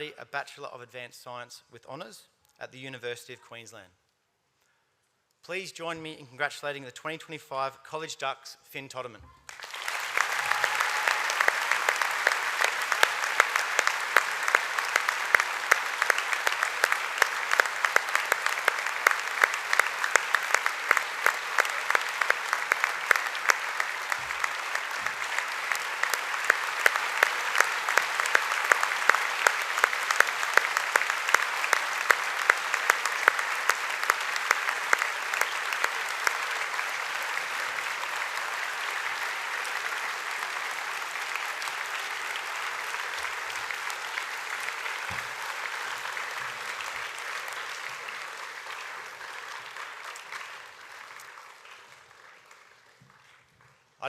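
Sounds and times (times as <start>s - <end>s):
audience applauding: 9.5s - 53.9s.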